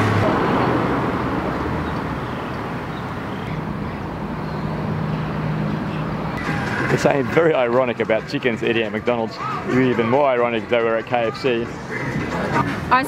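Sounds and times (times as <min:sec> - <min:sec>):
traffic road noise rumble: 0:00.0 - 0:13.0.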